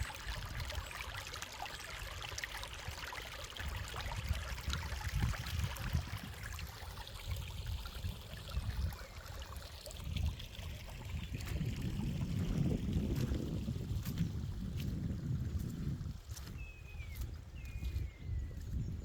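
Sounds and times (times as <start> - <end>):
stream trickling over rocks: 0.0 - 18.9.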